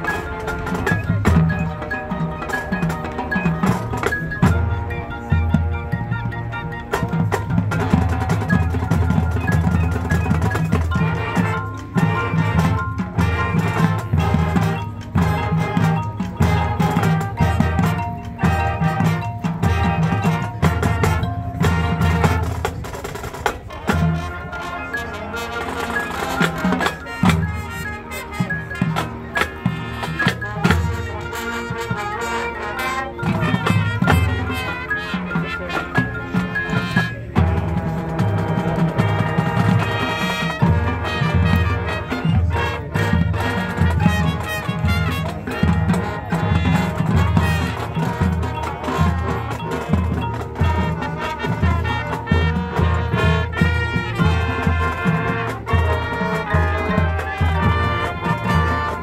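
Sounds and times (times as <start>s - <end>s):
marching band brass: 0.0s - 59.0s.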